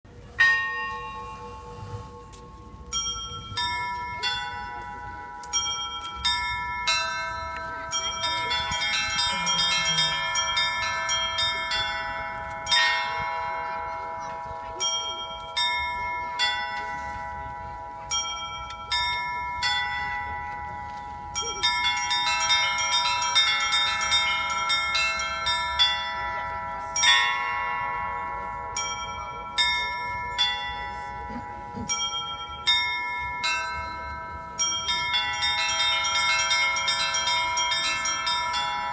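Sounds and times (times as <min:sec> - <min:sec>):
bells pealing: 0:00.1 - 0:38.9
deep bells ringing: 0:00.2 - 0:38.9.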